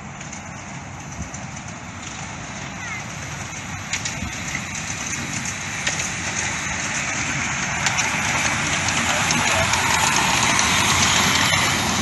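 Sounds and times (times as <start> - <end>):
miniature steam train running: 0.0 - 12.0
wheels clicking on track: 0.0 - 12.0.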